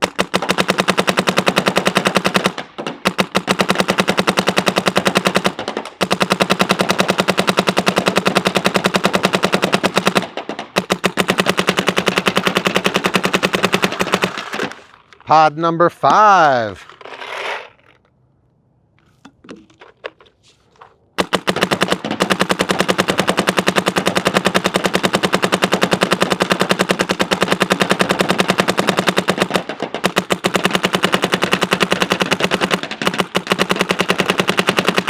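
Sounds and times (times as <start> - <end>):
paintball marker full-auto firing: 0.0 - 14.8, 21.2 - 35.0.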